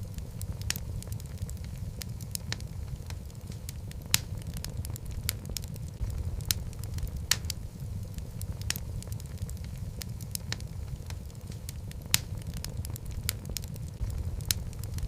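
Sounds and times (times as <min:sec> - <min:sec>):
fire rumbling: 0:00.0 - 0:15.0
logs crackling and popping: 0:00.0 - 0:15.0.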